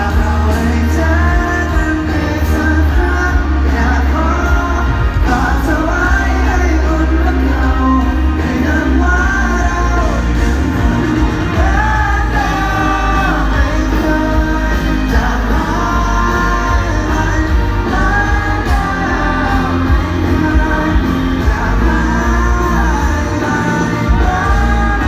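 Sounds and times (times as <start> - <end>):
heavy bass: 0.0 - 25.0
live pop-rock band: 0.0 - 25.0
person singing: 0.0 - 25.0.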